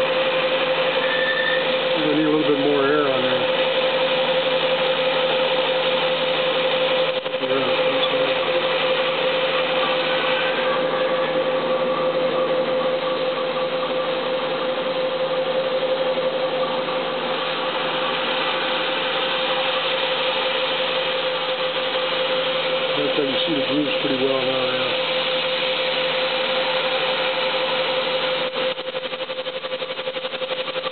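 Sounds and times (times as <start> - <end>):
mill spindle high whine: 0.0 - 30.9.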